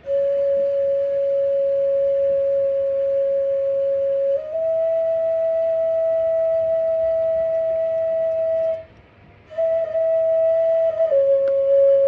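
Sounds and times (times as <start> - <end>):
nose flute long note: 0.0 - 12.0.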